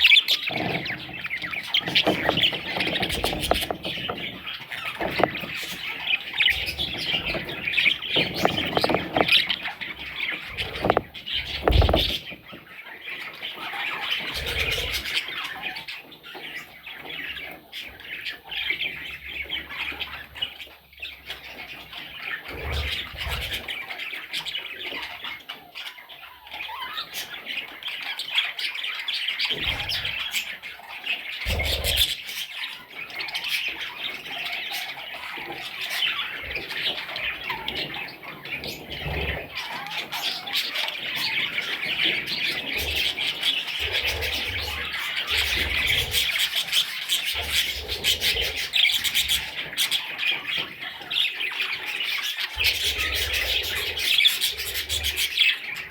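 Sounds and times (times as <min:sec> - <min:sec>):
budgerigars chattering and squawking: 0:00.0 - 0:55.9.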